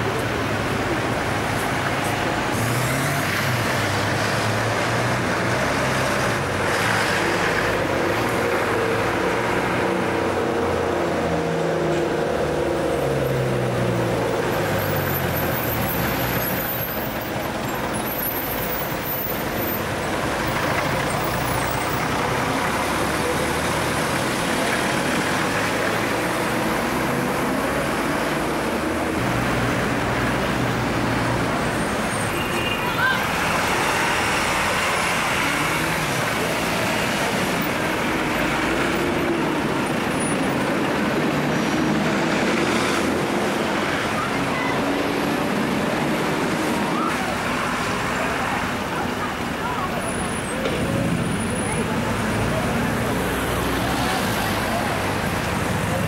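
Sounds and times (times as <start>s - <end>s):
diesel bus engine: 0.0s - 56.0s
passing cars: 0.0s - 56.0s.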